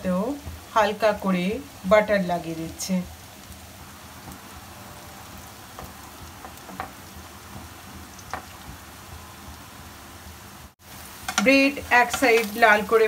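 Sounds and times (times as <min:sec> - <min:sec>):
bread sizzling in butter: 0:00.2 - 0:13.0.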